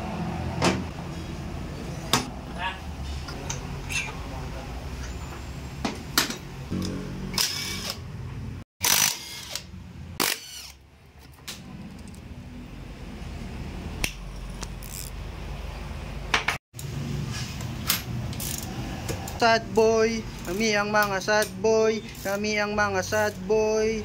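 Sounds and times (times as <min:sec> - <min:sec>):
low steady shop background: 0:00.0 - 0:24.0.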